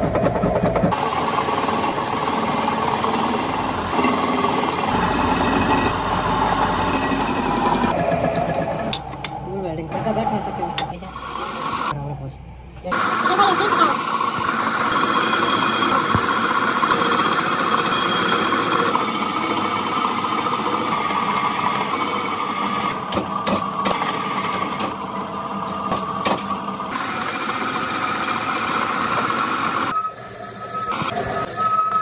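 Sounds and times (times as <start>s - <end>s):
workshop machinery running: 0.0s - 12.0s, 12.8s - 32.0s.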